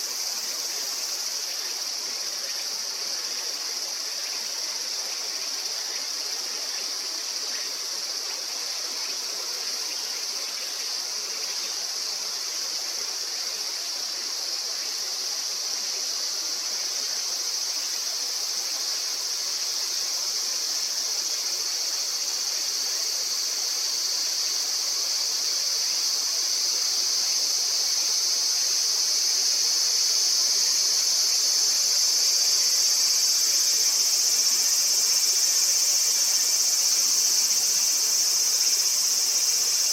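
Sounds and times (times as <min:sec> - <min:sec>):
insect chorus shrilling: 0:00.0 - 0:39.9.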